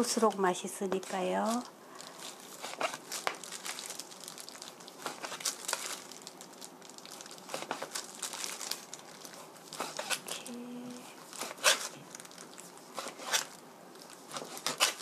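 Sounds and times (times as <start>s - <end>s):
plastic glove crinkling: 0.0s - 15.0s.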